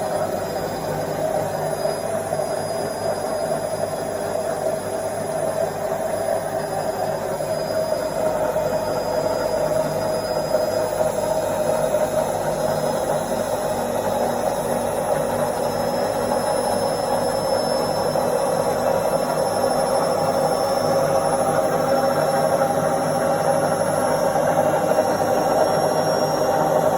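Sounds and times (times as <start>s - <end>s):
washing machine spinning: 0.0s - 26.9s.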